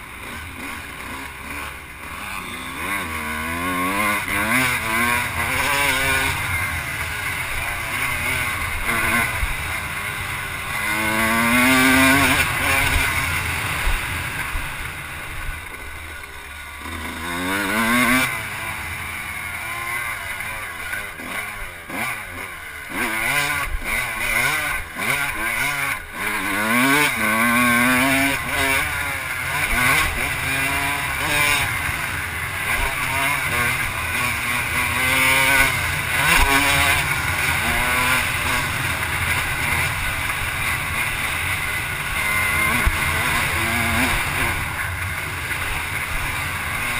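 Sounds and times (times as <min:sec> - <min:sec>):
off-road vehicle engine revving: 0:00.0 - 0:46.9.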